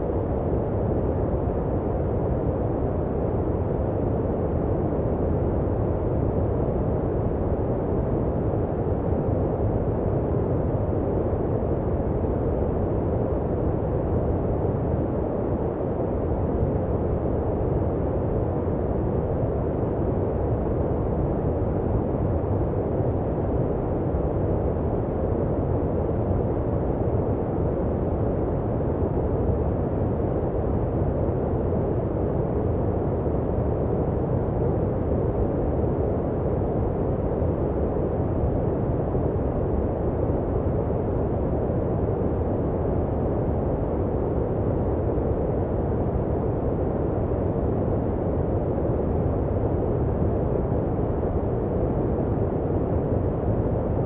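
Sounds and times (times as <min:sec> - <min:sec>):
deep muffled brown noise hiss: 0:00.0 - 0:54.0.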